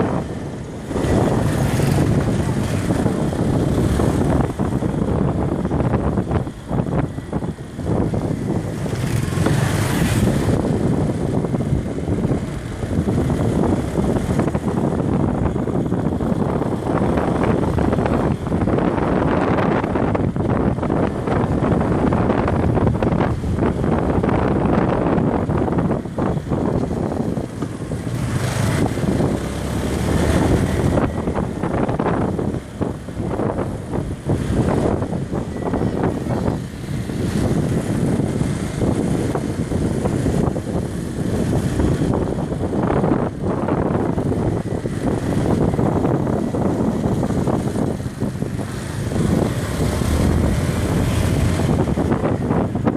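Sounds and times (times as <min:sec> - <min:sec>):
motorbike engine running: 0:00.0 - 0:52.9
wind rumble on microphone: 0:00.0 - 0:52.9.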